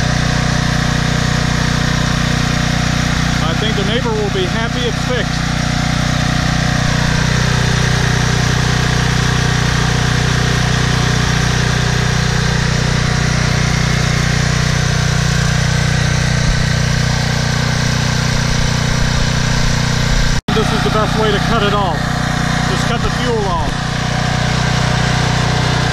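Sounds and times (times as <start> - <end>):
generator engine running: 0.0 - 25.9.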